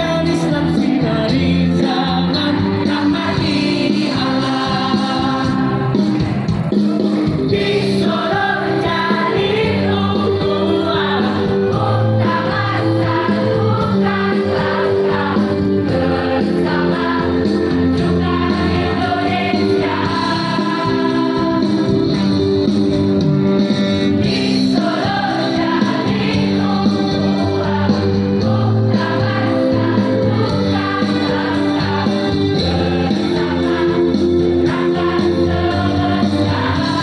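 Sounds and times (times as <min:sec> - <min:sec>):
choir singing in unison: 0:00.0 - 0:06.1, 0:07.3 - 0:22.5, 0:24.2 - 0:37.0.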